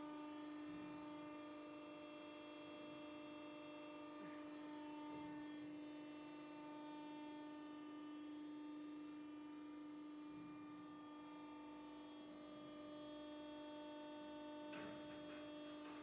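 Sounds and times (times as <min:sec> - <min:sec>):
machine electric hum: 0:00.0 - 0:16.0.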